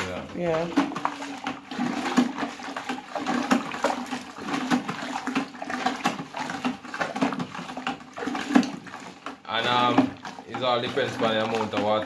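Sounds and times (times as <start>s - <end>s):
hand sloshing liquid in bucket: 0.0s - 12.0s.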